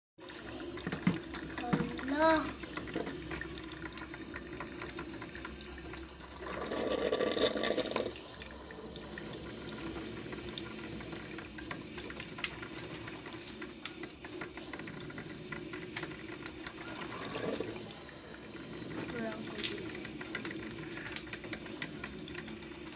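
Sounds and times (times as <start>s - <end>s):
coffee dripping into carafe: 0.2s - 22.9s
coffee maker brewing: 0.2s - 22.9s
hot water gurgling: 0.2s - 22.9s.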